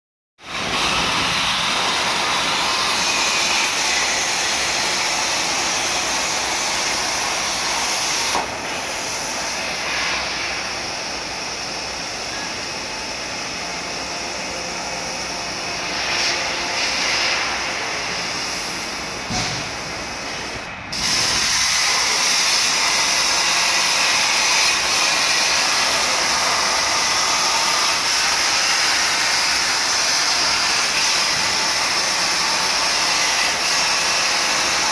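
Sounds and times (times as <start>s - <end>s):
cutting torch hissing: 0.5s - 34.9s.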